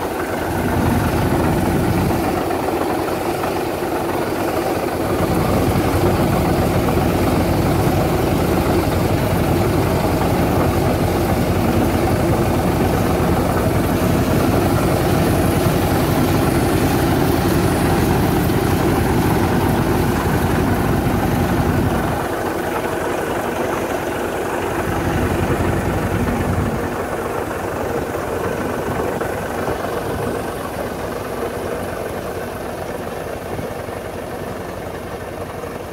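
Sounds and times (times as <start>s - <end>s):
orchard sprayer blowing spray: 0.0s - 35.9s.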